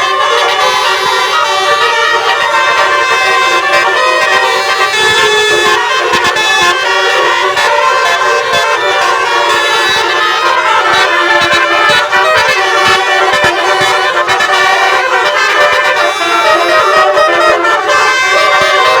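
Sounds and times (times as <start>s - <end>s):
bus horn playing a melody: 0.0s - 19.0s.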